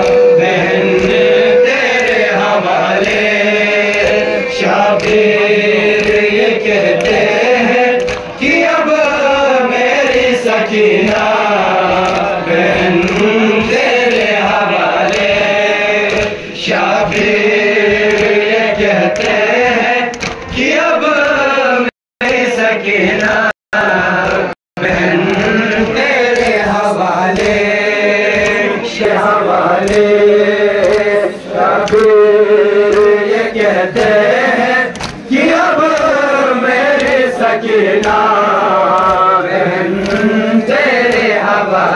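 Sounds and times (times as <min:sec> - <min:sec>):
men chanting together: 0:00.0 - 0:41.9.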